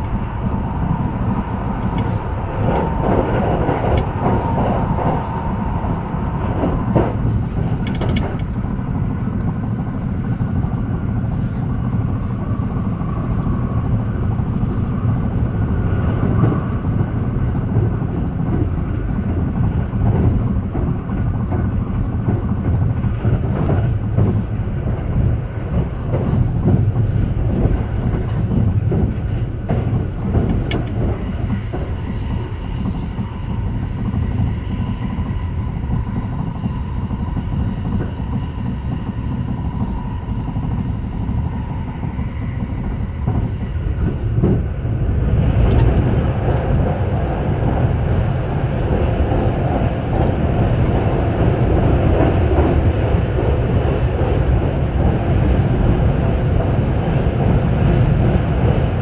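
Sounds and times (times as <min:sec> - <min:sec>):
train rumbling on the track: 0:00.0 - 0:59.0.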